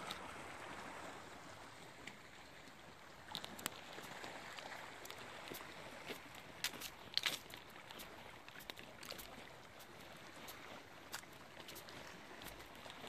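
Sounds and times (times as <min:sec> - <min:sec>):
sea lapping against rocks: 0:00.0 - 0:13.0.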